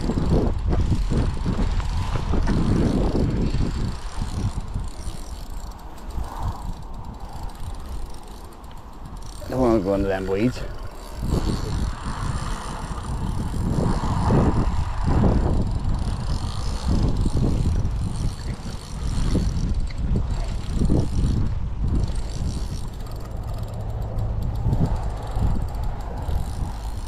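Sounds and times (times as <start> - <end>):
fishing reel winding and clicking: 0.0 - 27.0.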